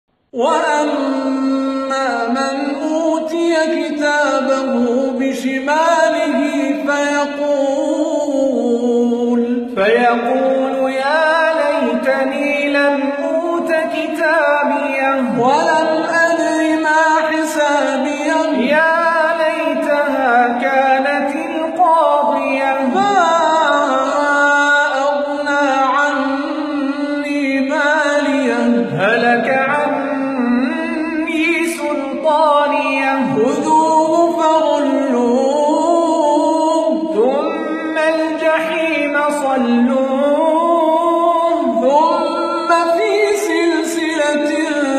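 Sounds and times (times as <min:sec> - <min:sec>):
young man reciting melodically: 0:00.2 - 0:44.9.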